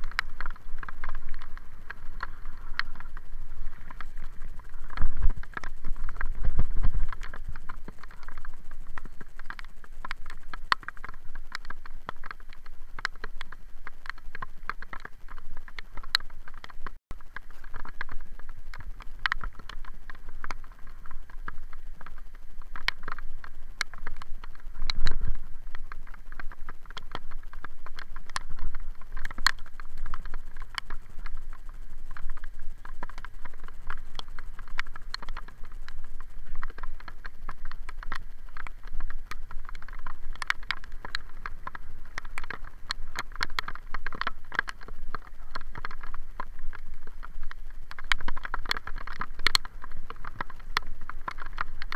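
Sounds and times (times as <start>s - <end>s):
bicycle clicks and knocks: 0.0s - 51.9s.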